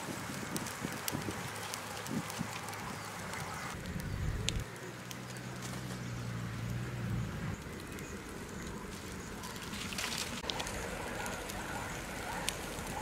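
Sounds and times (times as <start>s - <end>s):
fire of dry leaves crackling: 0.0s - 13.0s.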